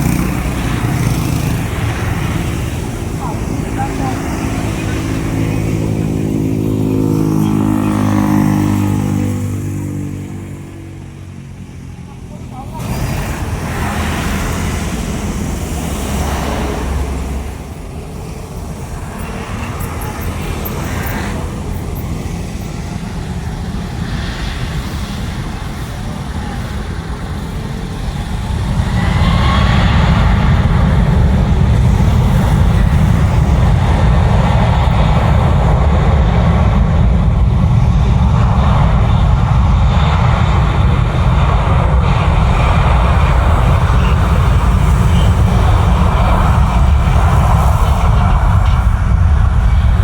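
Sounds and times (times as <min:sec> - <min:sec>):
jet engine roar: 0:00.0 - 0:50.0
jet engine whine: 0:00.0 - 0:50.0.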